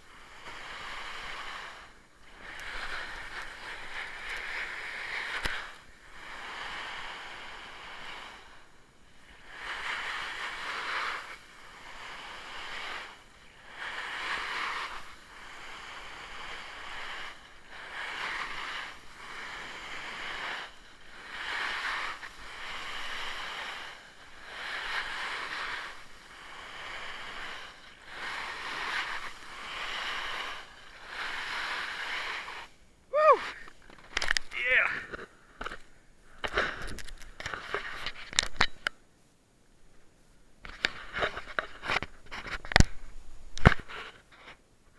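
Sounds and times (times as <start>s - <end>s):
snowboard edge scraping snow: 0.0s - 38.8s, 40.6s - 44.6s.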